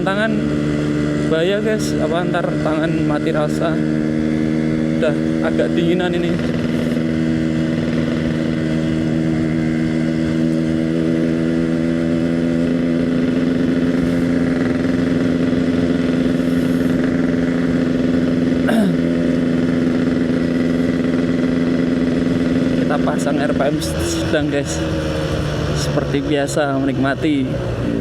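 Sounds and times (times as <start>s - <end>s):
two-stroke motorcycle engine running: 0.0s - 28.0s.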